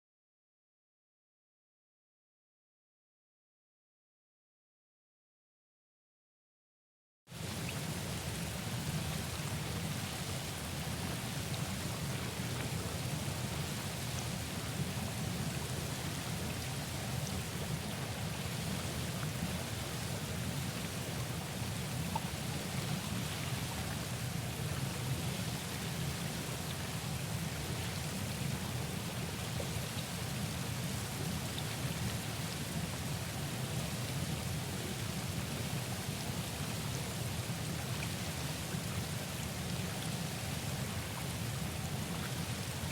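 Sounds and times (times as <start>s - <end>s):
hot tub jets bubbling: 7.3s - 42.9s.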